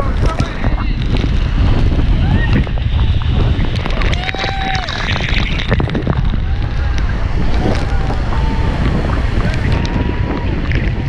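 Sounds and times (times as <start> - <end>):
churning water: 0.0 - 11.0
waterfall roaring: 0.0 - 11.0
wind buffeting the microphone: 0.0 - 11.0.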